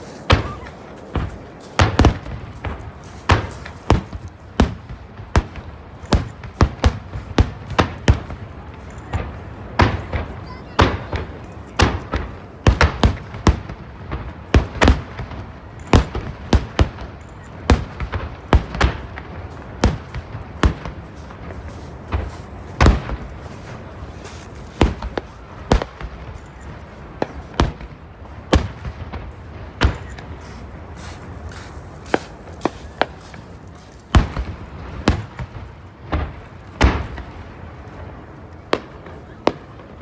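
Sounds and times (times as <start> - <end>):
fireworks bangs: 0.0 - 40.0.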